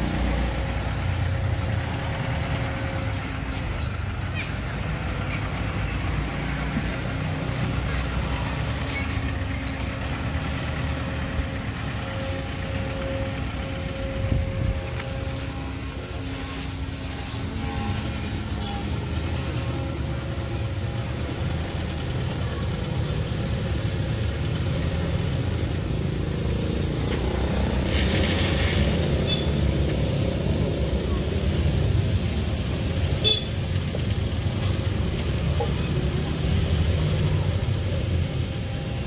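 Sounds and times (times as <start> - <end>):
engine running with low rumble: 0.0 - 39.0.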